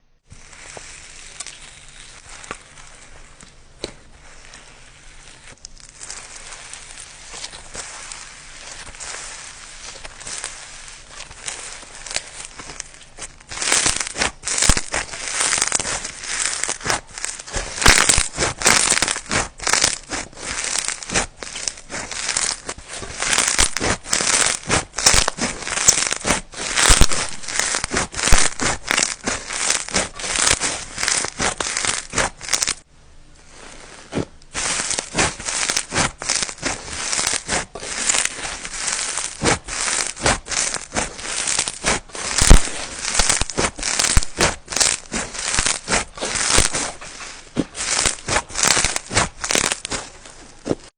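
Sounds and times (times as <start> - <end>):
slime squelching and crackling: 0.2 - 50.9.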